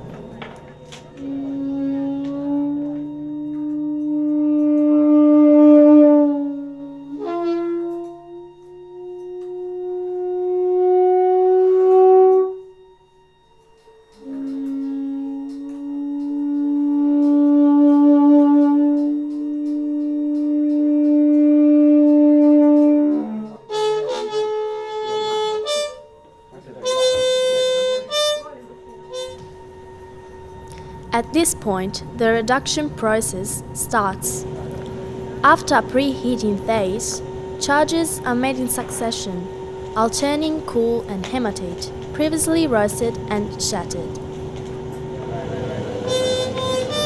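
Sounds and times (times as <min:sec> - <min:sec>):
low sustained drone: 0:00.0 - 0:47.0
wind instrument long notes: 0:00.9 - 0:13.0, 0:13.8 - 0:47.0.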